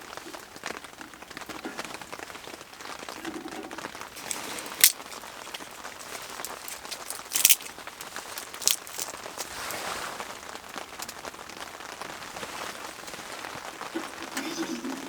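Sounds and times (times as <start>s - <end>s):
rain on tent fabric: 0.0s - 15.0s
sharp crackles or rustles: 0.0s - 15.0s.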